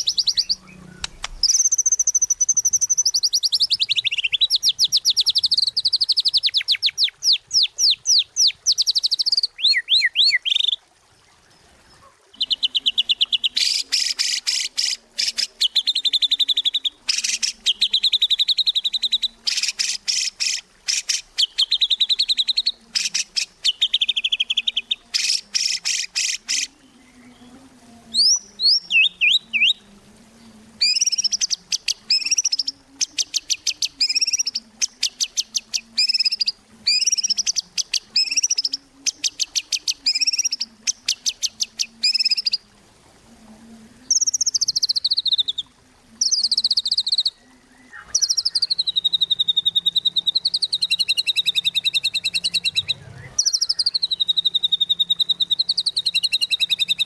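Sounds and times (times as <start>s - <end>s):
bird singing rapid trills: 0.0s - 10.9s, 12.4s - 29.9s, 30.8s - 42.6s, 44.1s - 57.0s.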